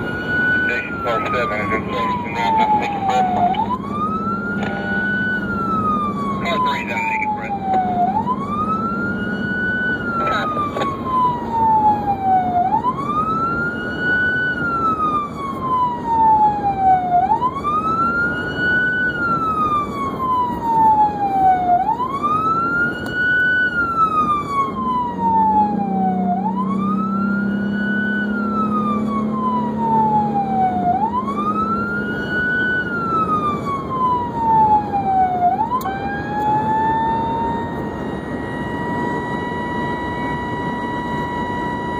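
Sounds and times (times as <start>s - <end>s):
emergency vehicle siren wailing: 0.0s - 41.9s
engine and road noise: 0.0s - 41.9s.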